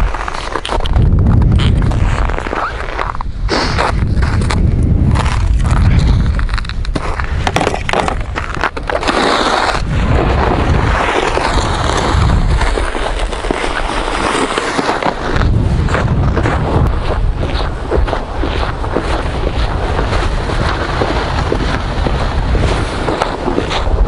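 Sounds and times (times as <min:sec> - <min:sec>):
footsteps crunching on snow: 0:00.0 - 0:24.0
sled scraping over snow: 0:00.0 - 0:24.0
wind buffeting microphone: 0:00.0 - 0:24.0.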